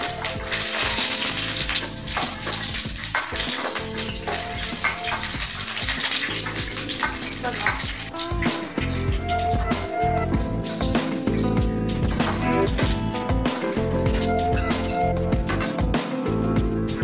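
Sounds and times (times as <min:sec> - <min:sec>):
metal spoon scraping a pan: 0:00.0 - 0:15.8
nuts frying in a pan sizzling: 0:00.0 - 0:15.9.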